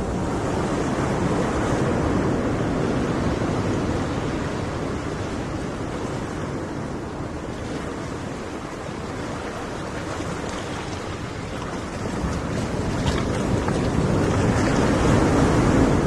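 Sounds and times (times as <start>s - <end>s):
surf washing on shore: 0.0s - 16.0s.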